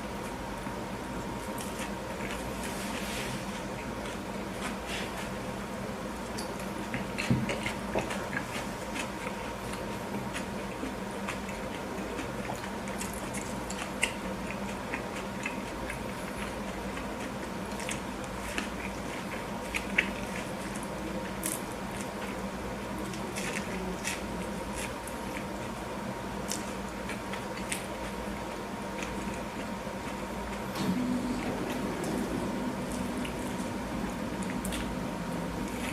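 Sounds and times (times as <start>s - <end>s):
biting and chewing: 0.0s - 35.9s
steady hum: 0.0s - 35.9s.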